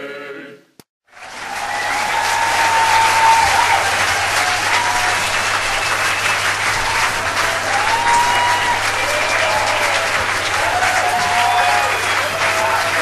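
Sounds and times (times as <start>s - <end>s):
audience applauding: 1.1s - 13.0s.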